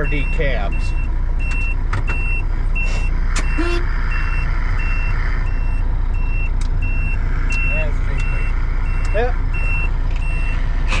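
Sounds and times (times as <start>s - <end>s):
diesel engine drone: 0.0s - 11.0s
turn signal beeps: 0.0s - 11.0s.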